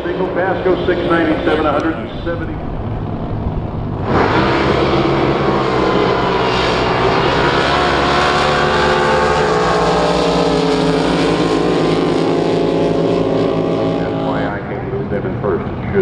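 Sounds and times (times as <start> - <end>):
boat engine running loud: 0.0 - 16.0.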